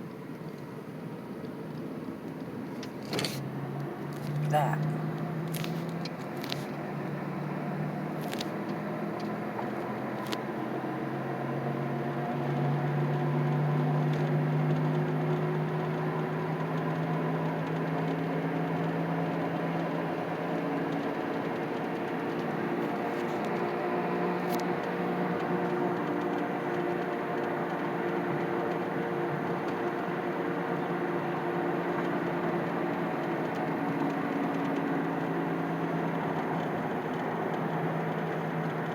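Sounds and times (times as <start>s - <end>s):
car engine and road hum: 0.0s - 38.9s.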